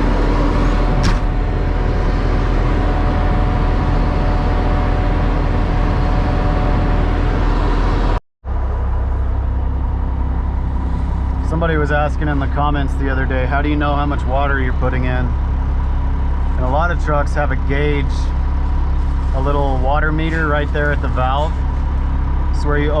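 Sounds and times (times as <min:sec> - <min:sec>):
mixer truck engine running: 0:00.0 - 0:23.0.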